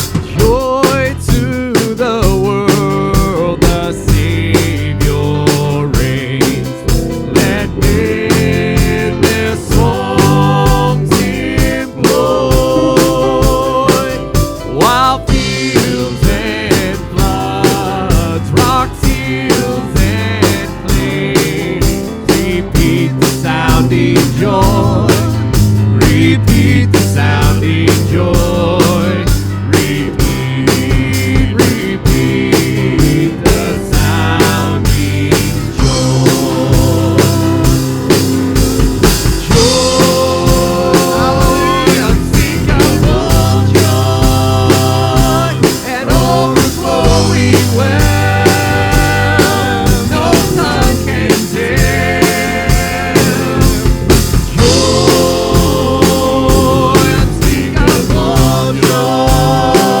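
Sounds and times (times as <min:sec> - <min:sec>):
bass and electric guitar: 0:00.0 - 1:00.0
drum kit beat: 0:00.0 - 1:00.0.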